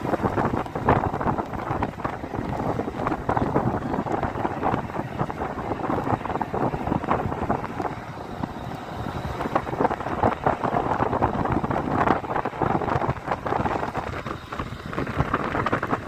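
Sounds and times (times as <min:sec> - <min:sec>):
vehicle running: 0:00.0 - 0:16.0
wind buffeting microphone: 0:00.0 - 0:16.0.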